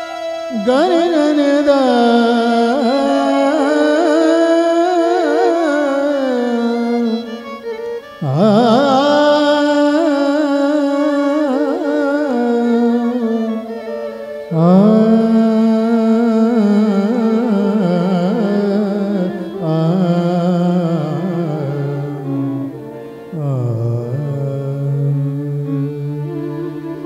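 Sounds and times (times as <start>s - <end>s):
man singing classical vocal music: 0.0s - 27.0s.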